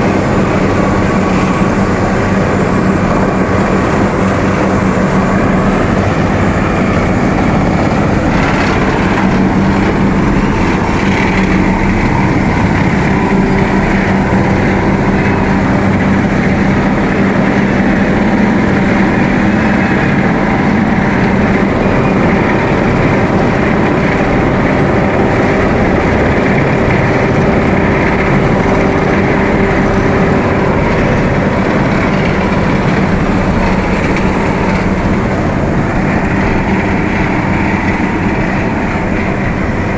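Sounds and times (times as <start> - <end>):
asphalt paver running: 0.0 - 39.9.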